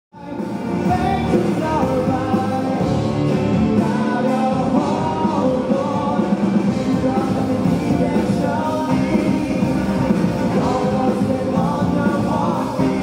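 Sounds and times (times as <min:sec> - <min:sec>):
electric bass: 0:00.2 - 0:13.0
lead singer singing: 0:00.2 - 0:13.0
live rock band: 0:00.2 - 0:13.0.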